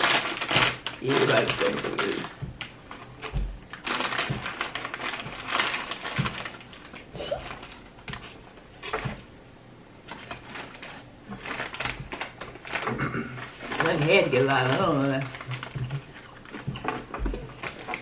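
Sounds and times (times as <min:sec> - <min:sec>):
chip bag crinkling: 0:00.0 - 0:09.0, 0:10.0 - 0:18.0.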